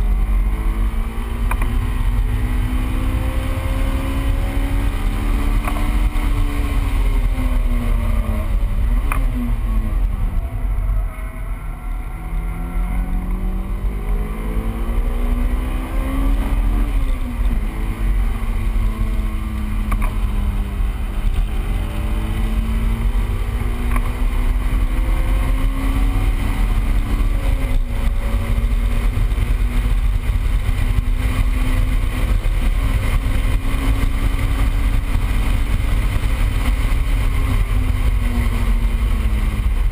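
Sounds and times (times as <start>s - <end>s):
car engine revving: 0.0s - 39.9s
road rumble: 0.0s - 39.9s
wind noise: 0.0s - 39.9s.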